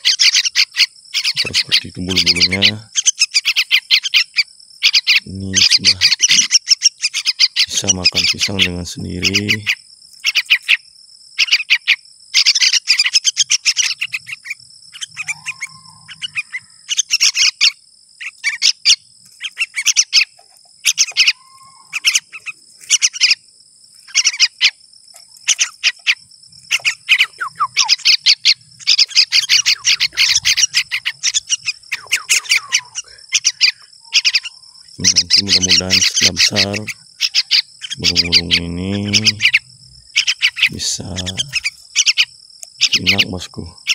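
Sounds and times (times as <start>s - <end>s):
fledgling birds harsh chirping: 0.0s - 43.9s
high insect whine: 0.0s - 43.9s.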